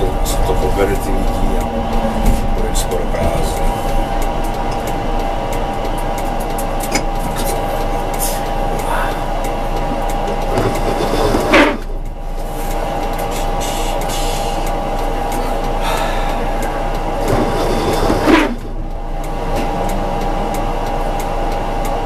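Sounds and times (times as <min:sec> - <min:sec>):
tram mechanical hum and whine: 0:00.0 - 0:22.0.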